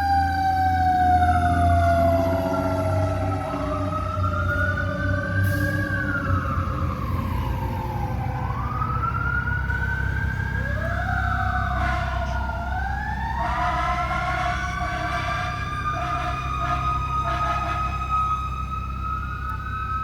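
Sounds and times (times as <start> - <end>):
emergency sirens wailing: 0.0 - 20.0.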